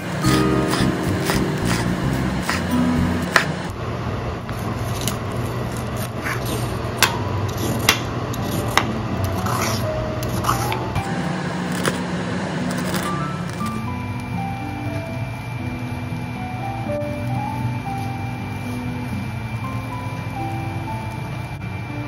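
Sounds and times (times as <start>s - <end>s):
background music with low tones: 0.0s - 3.8s, 7.0s - 22.0s.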